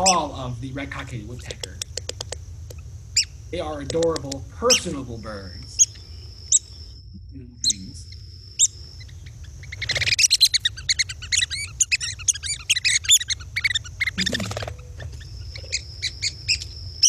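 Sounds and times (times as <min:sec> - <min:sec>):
woodpecker calls: 0:00.0 - 0:00.4, 0:01.3 - 0:07.0, 0:07.6 - 0:17.0.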